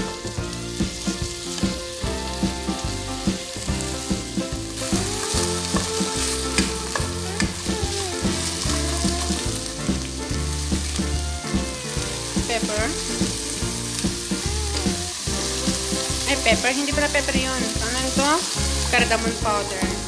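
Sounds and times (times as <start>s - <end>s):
chicken sizzling in hot oil: 0.0s - 20.0s
spatula clacking and scraping pan: 0.2s - 20.0s.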